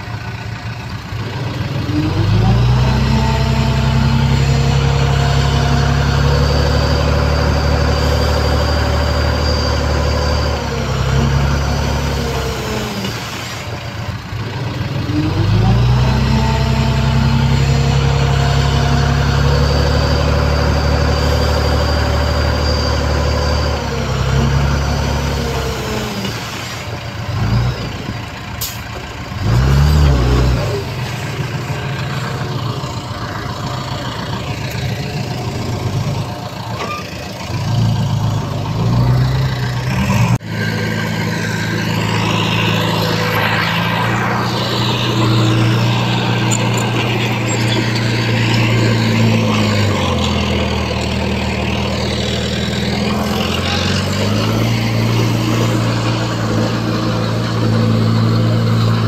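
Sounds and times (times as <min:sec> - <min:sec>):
diesel engine revving under load: 0:00.0 - 0:59.0.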